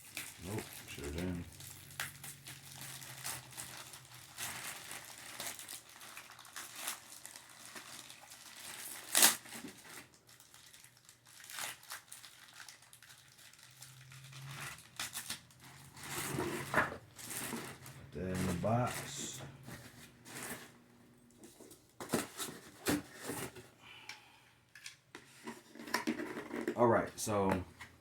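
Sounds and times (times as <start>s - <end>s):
plastic packaging crinkling: 0.0s - 23.6s.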